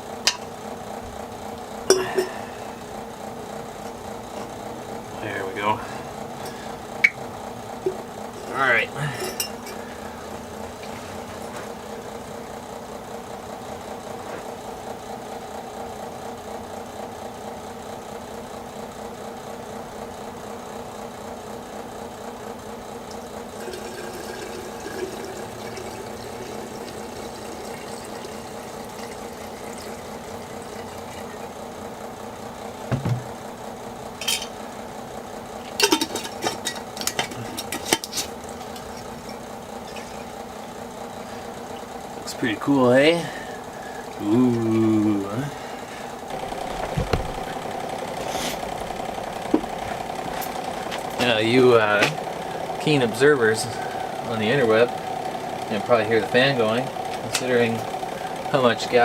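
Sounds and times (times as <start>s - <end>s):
electric fan humming: 0.0s - 59.0s.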